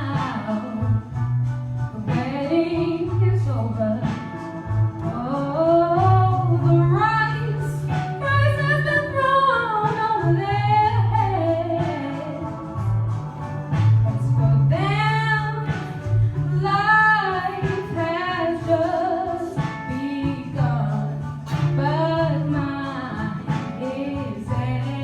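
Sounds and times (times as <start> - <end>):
woman singing with vibrato: 0.0 - 1.1, 1.9 - 25.0
instrumental accompaniment with bass: 0.0 - 25.0.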